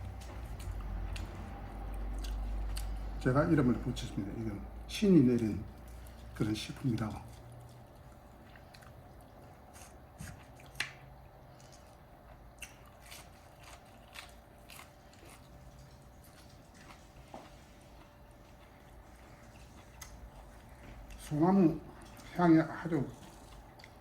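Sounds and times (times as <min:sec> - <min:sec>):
person chewing crunchy meat: 0:00.0 - 0:03.2, 0:05.4 - 0:24.0
faint steady hum: 0:00.0 - 0:24.0.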